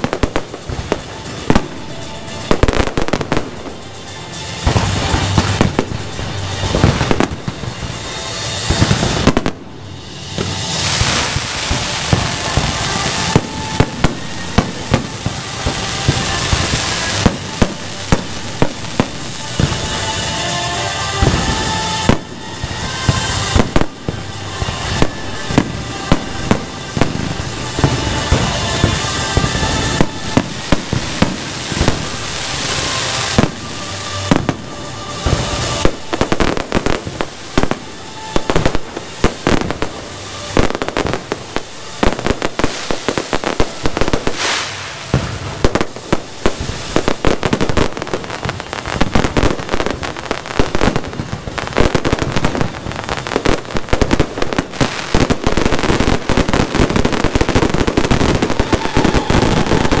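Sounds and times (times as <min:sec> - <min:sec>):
fireworks bangs and crackles: 0:00.0 - 1:00.0.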